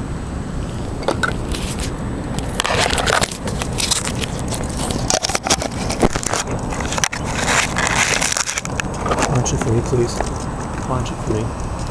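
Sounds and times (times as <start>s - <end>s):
wind rumble on microphone: 0.0s - 11.9s
scraping and crackling handling: 0.6s - 11.9s.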